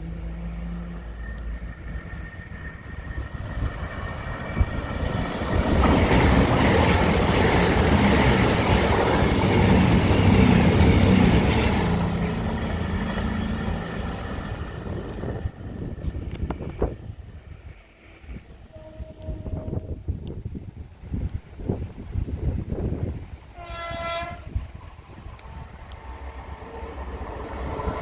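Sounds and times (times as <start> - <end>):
train passing rumble: 0.0 - 28.0.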